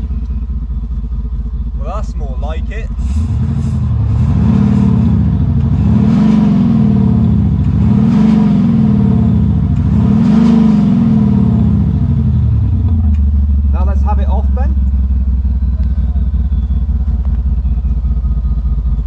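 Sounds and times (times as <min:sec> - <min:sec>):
engine revving: 0:01.6 - 0:19.0.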